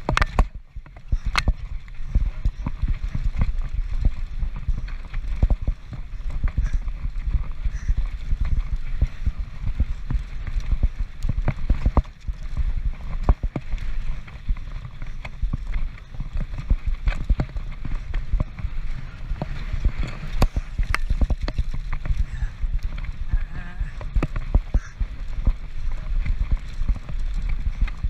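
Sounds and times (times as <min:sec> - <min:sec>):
bike rattling over rocks: 0:00.0 - 0:28.0
wind rumble on microphone: 0:00.0 - 0:28.0.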